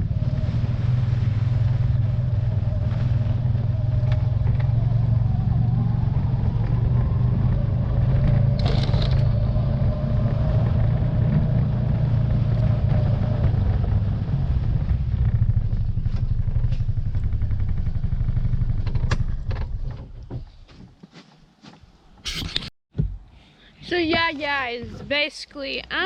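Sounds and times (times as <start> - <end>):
vehicle engine rumbling: 0.0 - 22.7.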